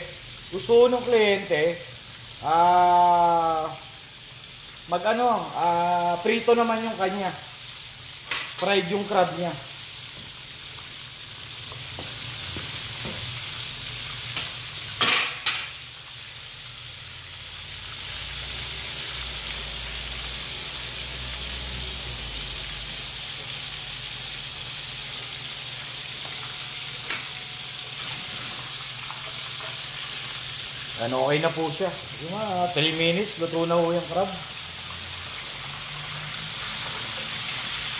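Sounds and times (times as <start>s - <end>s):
crabs sizzling in hot oil: 0.0s - 37.9s.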